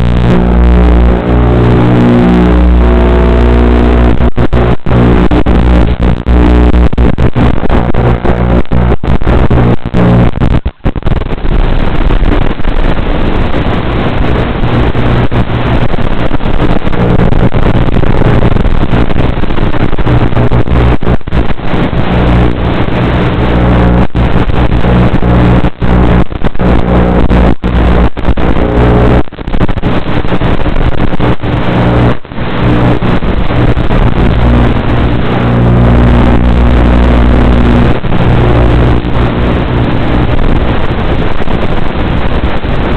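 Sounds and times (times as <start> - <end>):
drone motors humming: 0.0 - 40.8.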